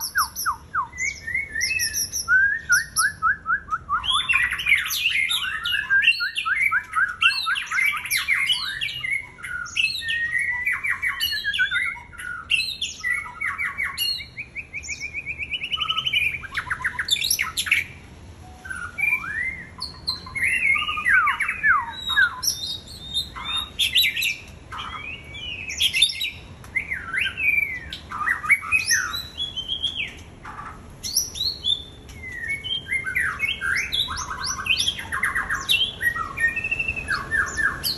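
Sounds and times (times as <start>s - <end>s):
bird singing: 0.0s - 37.9s.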